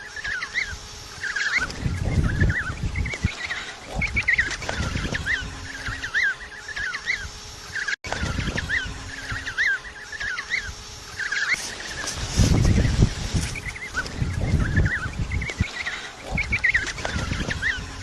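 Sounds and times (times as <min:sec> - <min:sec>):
low rumbling noise: 0:00.0 - 0:18.0
penguins calling: 0:00.0 - 0:18.0.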